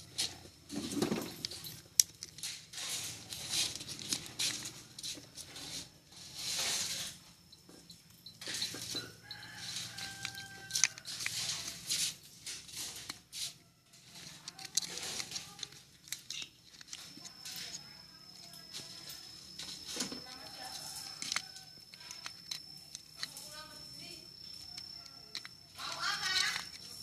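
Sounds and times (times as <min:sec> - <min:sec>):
plastic parts clicking and scraping: 0:00.0 - 0:27.0.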